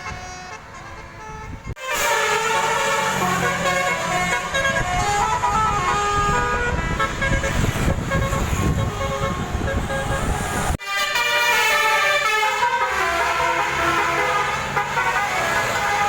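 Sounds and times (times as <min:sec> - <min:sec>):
bus horn playing a tune: 0:00.0 - 0:16.0
bus rumbling past: 0:00.0 - 0:16.0.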